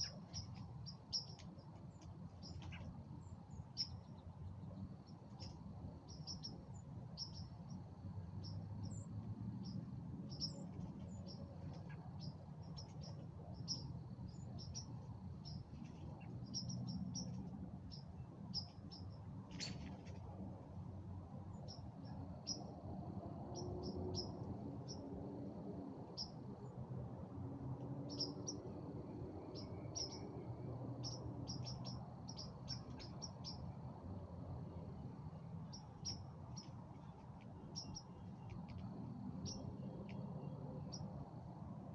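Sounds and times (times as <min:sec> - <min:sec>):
small birds chirping: 0:00.0 - 0:20.4, 0:21.5 - 0:22.7, 0:23.5 - 0:25.1, 0:26.1 - 0:26.7, 0:28.0 - 0:41.2.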